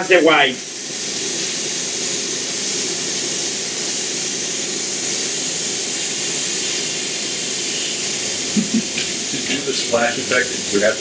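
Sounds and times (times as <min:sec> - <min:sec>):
airbrush spraying hiss: 0:00.0 - 0:11.0.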